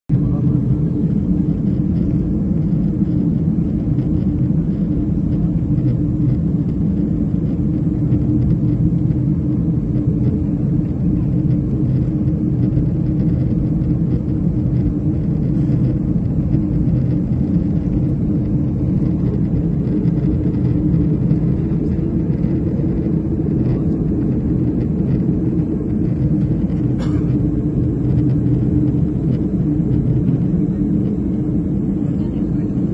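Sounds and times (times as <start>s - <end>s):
airliner engine drone: 0.1s - 32.9s.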